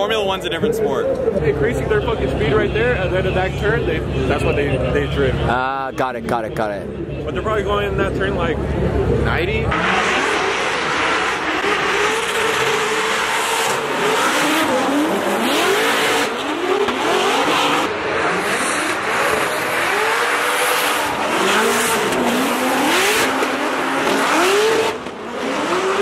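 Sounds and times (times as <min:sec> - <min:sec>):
car engines revving hard: 0:00.0 - 0:26.0.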